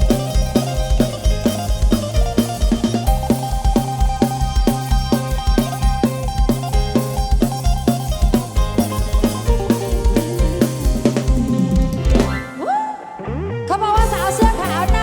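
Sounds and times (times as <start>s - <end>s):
deep bass line: 0.0s - 12.5s, 13.5s - 15.0s
drum-kit beat: 0.0s - 12.6s, 14.0s - 15.0s
live band music: 0.0s - 13.1s, 13.8s - 15.0s
keyboard notes: 0.0s - 13.4s, 14.0s - 15.0s.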